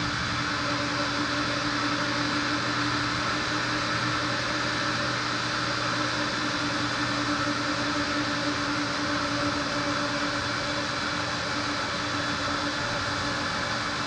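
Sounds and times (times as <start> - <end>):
rug-washing machine humming: 0.0 - 14.0.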